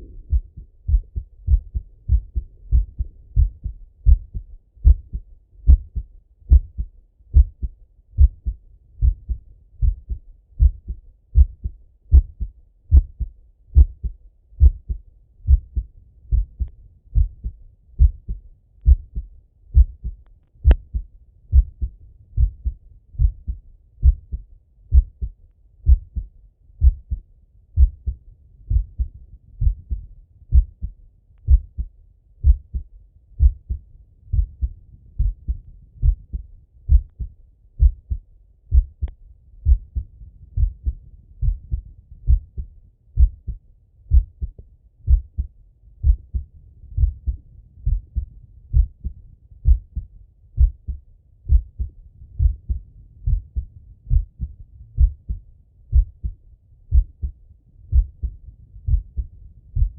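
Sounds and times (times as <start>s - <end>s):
heartbeat through stethoscope: 0.0s - 59.9s.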